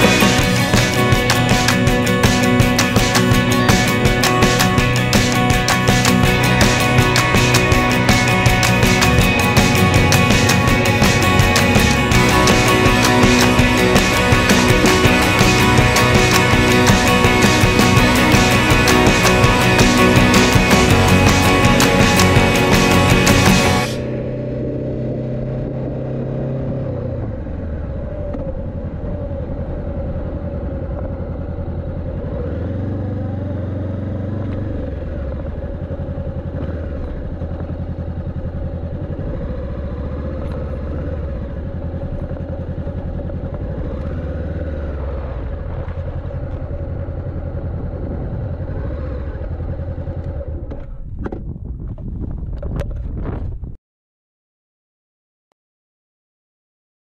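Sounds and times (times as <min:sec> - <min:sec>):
motorcycle engine running: 0:00.0 - 0:53.7.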